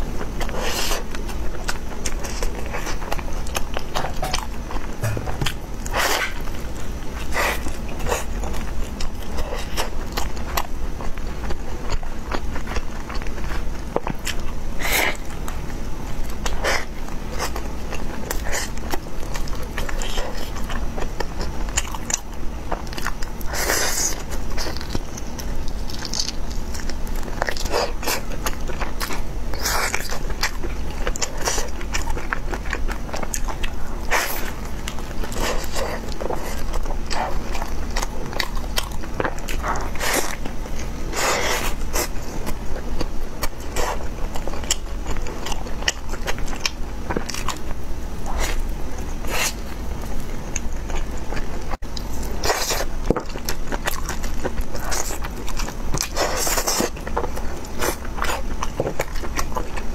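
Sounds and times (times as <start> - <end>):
biting and chewing food: 0.0 - 59.9
steady low hum: 0.0 - 59.9.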